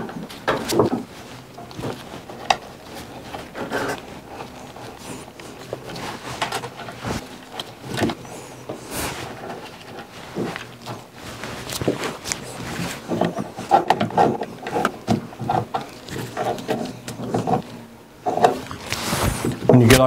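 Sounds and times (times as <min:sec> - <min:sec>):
hands handling wires and fittings: 0:00.0 - 0:20.0.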